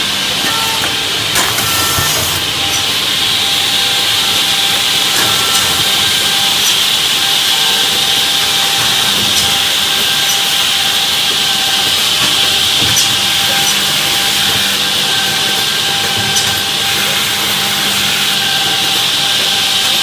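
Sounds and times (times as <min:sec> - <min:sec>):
edgebanding machine hissing: 0:00.0 - 0:20.0.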